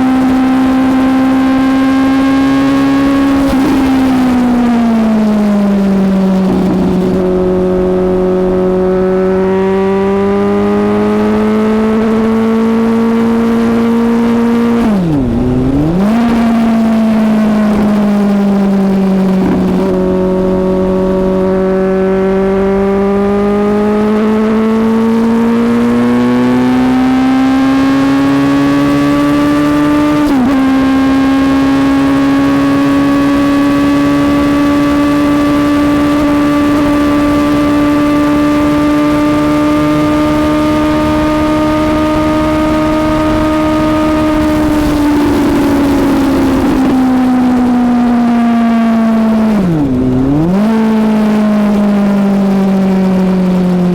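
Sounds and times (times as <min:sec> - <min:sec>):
motorcycle engine running hard: 0:00.0 - 0:53.9.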